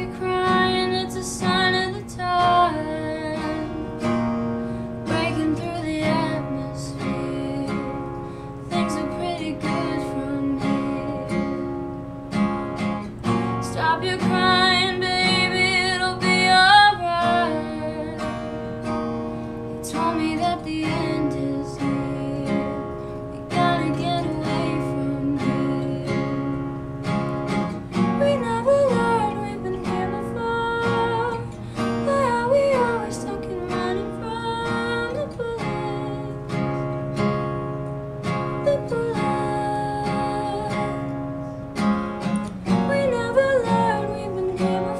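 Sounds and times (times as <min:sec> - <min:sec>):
woman singing: 0:00.0 - 0:04.2, 0:05.0 - 0:12.1, 0:13.4 - 0:19.0, 0:19.6 - 0:26.8, 0:27.6 - 0:36.8, 0:38.2 - 0:41.6, 0:42.2 - 0:44.9
strummed acoustic guitar: 0:00.0 - 0:44.9.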